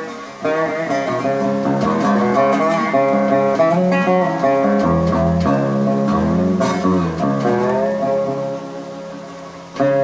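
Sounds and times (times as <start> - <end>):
resonator guitar playing: 0.0 - 10.0.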